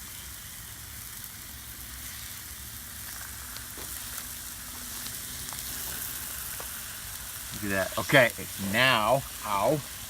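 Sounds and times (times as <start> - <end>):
cheese sizzling on a griddle: 0.0 - 10.0
faint crackles: 1.0 - 9.4.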